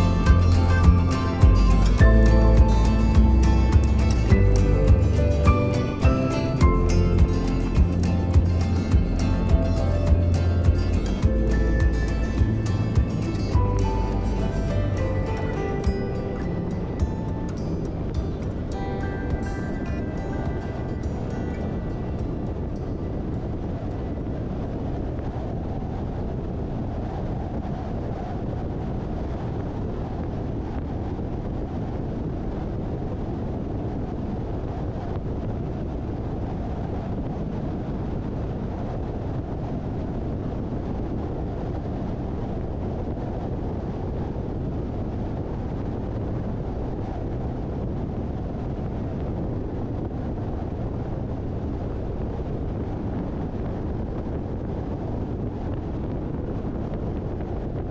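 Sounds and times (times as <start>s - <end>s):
car road and wind noise: 0.0s - 57.9s.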